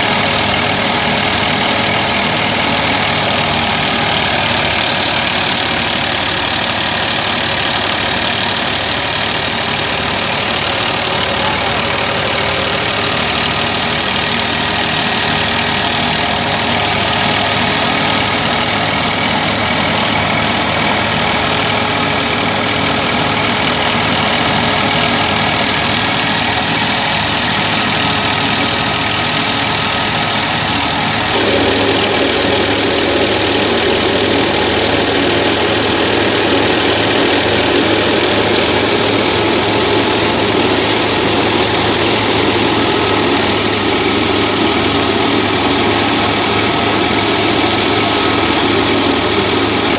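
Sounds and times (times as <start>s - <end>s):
threshing machine churning: 0.0s - 49.9s
tractor diesel engine under load: 0.0s - 49.9s.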